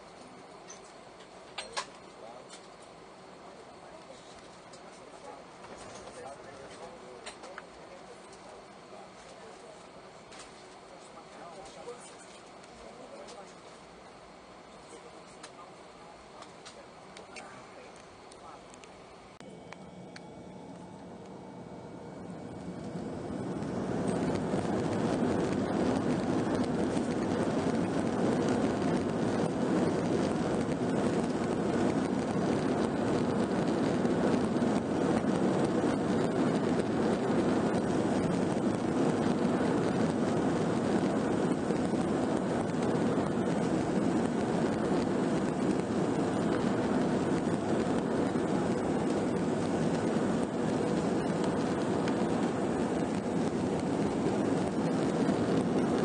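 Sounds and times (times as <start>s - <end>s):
jet engine roar in cabin: 0.0s - 56.0s.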